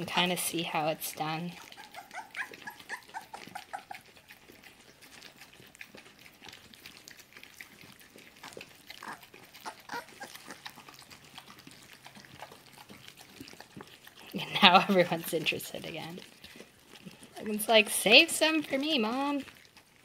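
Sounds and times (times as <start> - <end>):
dogs lapping from a bowl: 0.0 - 20.0.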